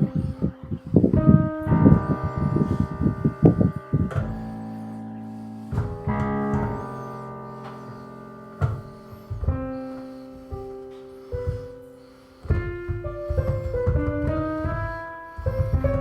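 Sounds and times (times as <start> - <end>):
slow instrumental music: 0.0 - 16.0.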